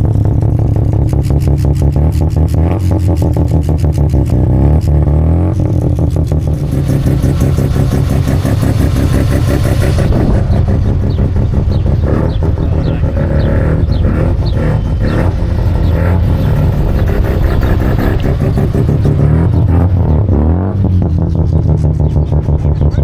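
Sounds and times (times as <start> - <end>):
rotary engine revving: 0.0 - 23.0.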